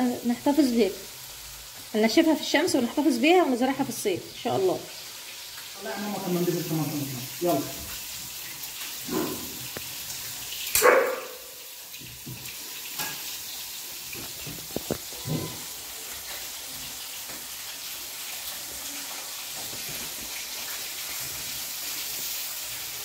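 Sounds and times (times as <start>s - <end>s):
fish sizzling in frying pan: 0.0s - 23.0s.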